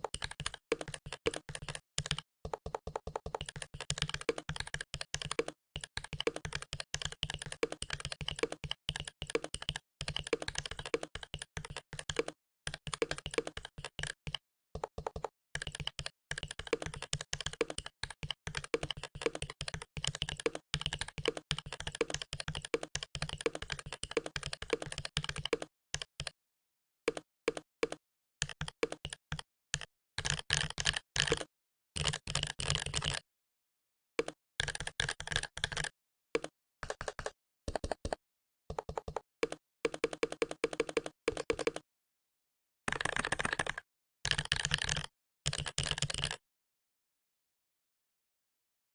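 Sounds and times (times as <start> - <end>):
mechanical keyboard typing: 0.0 - 26.4, 27.1 - 33.2, 34.2 - 41.8, 42.9 - 46.4.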